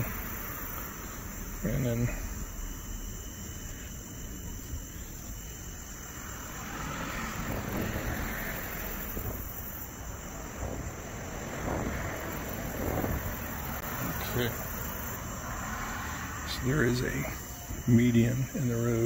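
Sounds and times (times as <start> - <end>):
passing motor vehicle rushing: 0.0 - 2.5, 5.8 - 19.0
crickets chirring: 0.0 - 19.0.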